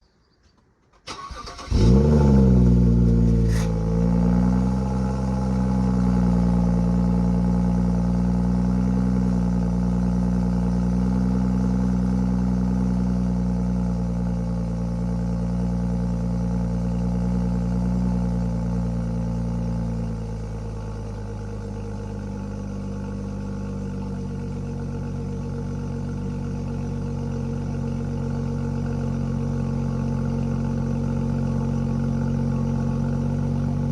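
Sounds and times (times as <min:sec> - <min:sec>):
car engine revving and idling: 0:01.1 - 0:33.9.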